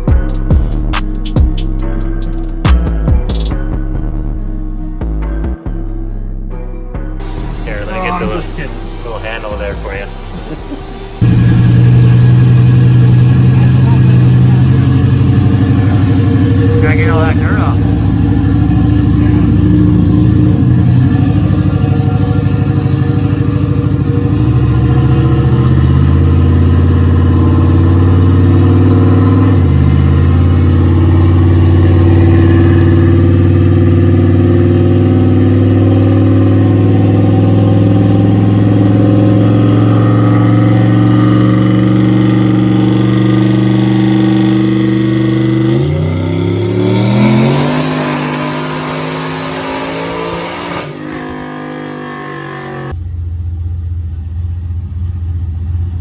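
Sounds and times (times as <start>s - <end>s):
vehicle engine running: 7.2s - 56.0s.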